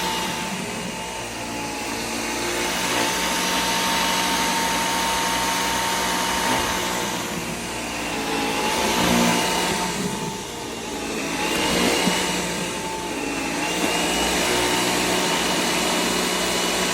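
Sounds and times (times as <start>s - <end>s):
stick vacuum running: 0.0s - 16.9s.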